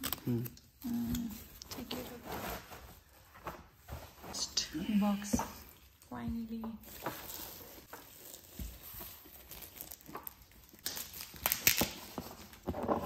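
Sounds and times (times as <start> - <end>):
foil gift wrap rustling and tearing: 0.0 - 4.8, 6.8 - 13.0.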